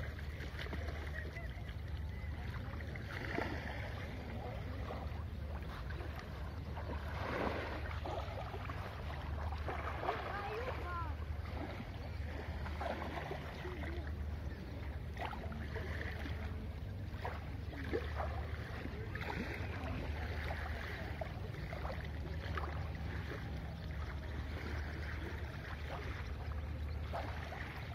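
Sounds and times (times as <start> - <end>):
sea lapping at shore: 0.0 - 27.9
steady low rumble: 0.0 - 27.9.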